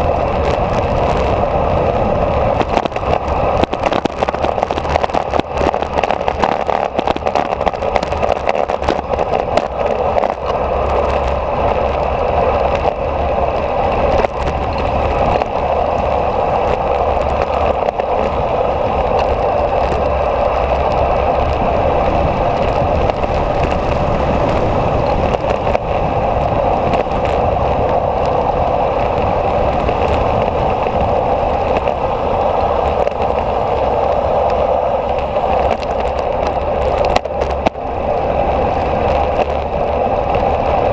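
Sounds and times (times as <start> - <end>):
wind and road noise: 0.0 - 40.9
wind buffeting microphone: 0.0 - 40.9.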